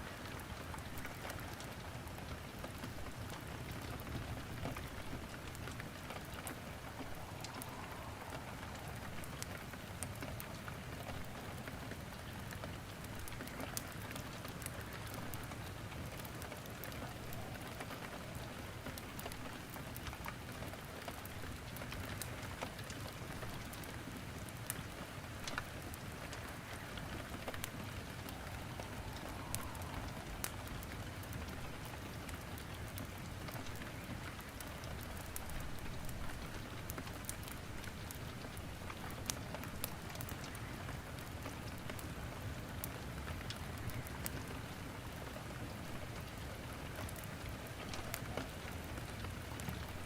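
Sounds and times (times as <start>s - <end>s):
steady rain: 0.0s - 50.0s
burning wood popping and crackling: 0.2s - 50.0s.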